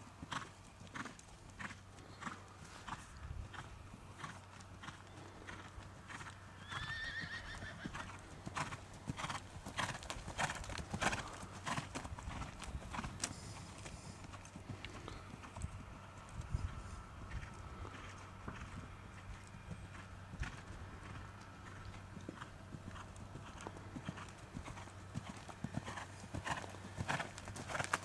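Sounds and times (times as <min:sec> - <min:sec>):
horse hooves trotting on sand: 0:00.0 - 0:28.0.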